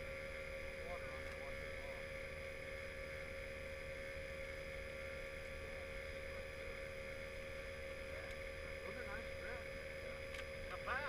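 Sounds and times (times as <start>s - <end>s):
steady hum with held tones: 0.0s - 11.0s.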